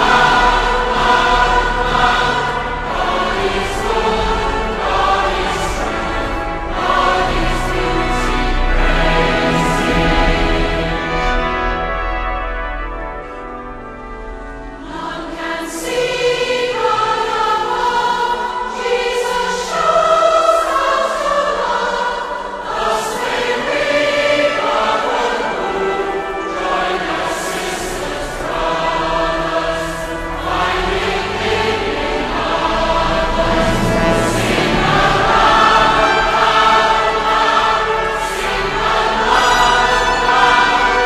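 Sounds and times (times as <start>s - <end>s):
choir singing: 0.0s - 41.0s
musical accompaniment: 0.0s - 41.0s
organ-like chords: 0.0s - 41.0s.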